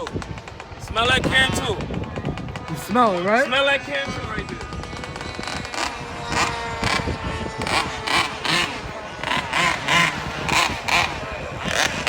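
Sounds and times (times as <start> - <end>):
rc car engine revving: 0.0 - 12.0.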